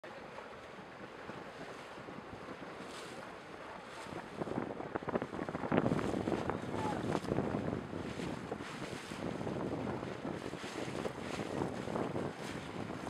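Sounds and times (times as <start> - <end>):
water splashing against boat hull: 0.0 - 13.0
wind buffeting microphone: 0.8 - 13.0.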